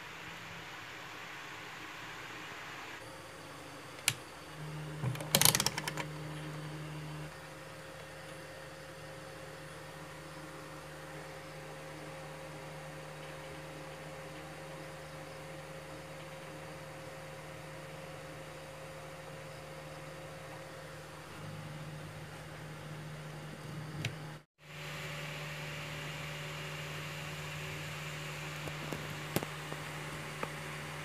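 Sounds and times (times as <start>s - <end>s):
power supply mains hum: 0.0s - 31.0s.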